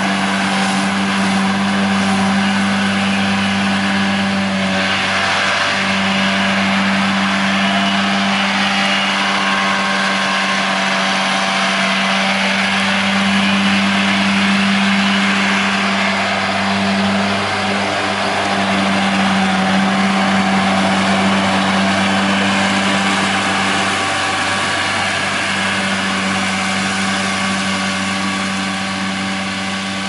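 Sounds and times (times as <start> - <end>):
disc mower spinning: 0.0 - 30.0
tractor diesel engine droning: 0.0 - 30.0.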